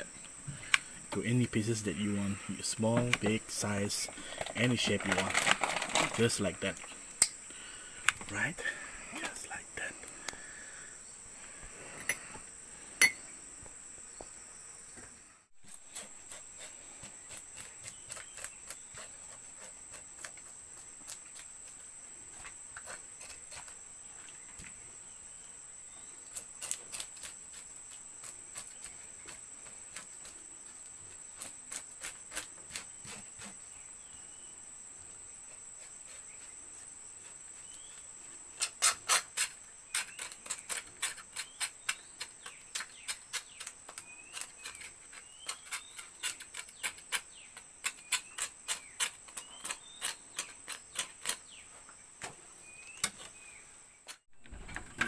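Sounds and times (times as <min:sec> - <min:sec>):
crickets droning: 0:00.0 - 0:55.0.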